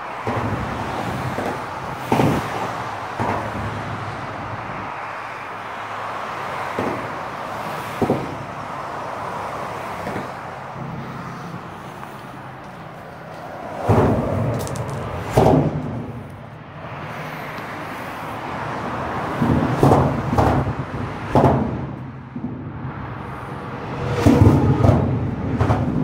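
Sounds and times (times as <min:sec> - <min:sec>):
steady rush of traffic: 0:00.0 - 0:26.0.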